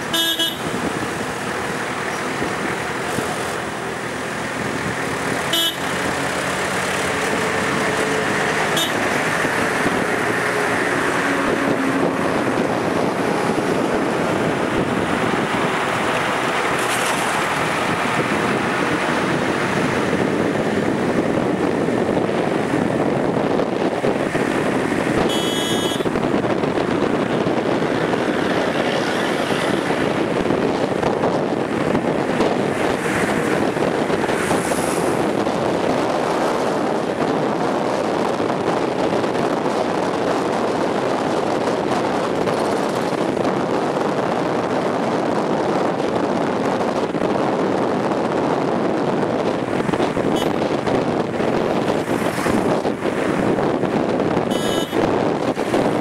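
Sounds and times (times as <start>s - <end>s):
moving train running noise: 0.0s - 56.0s
wind buffeting microphone: 0.0s - 56.0s.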